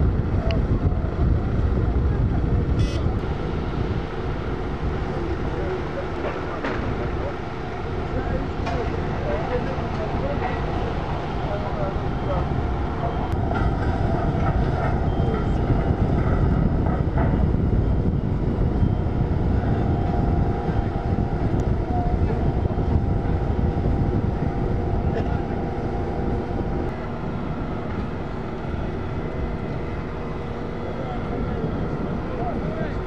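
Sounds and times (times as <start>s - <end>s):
heavy machinery engines droning: 0.0s - 33.0s
steady tonal hum: 0.0s - 33.0s.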